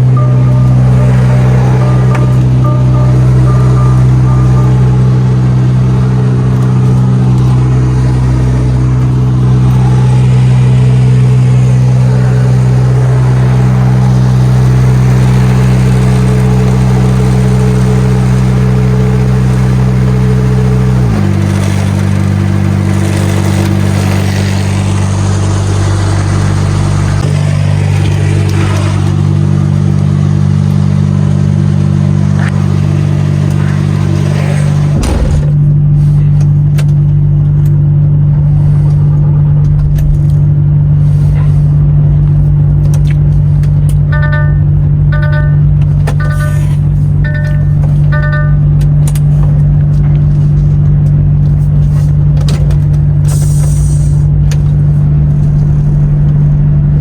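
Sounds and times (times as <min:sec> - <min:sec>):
road noise: 0:00.0 - 0:57.0
truck diesel engine running: 0:00.0 - 0:57.0.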